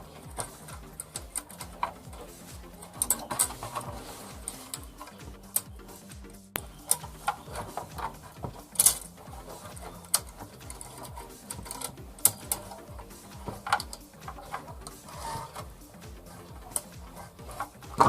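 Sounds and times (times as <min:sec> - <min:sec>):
small parts clicking and tapping: 0:00.0 - 0:05.8, 0:06.5 - 0:18.0.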